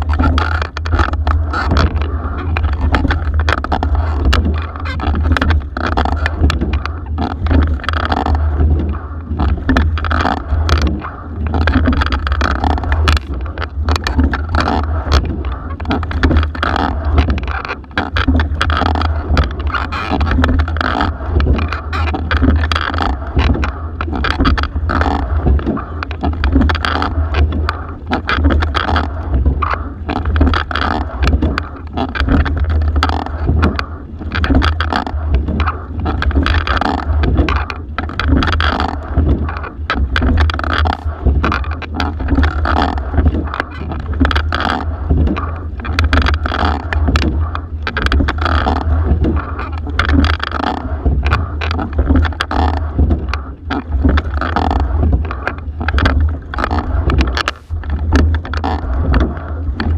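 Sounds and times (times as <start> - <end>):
low rumble: 0.0 - 59.9
oars knocking in oarlocks: 0.0 - 59.9
water rushing along hull: 0.0 - 59.9.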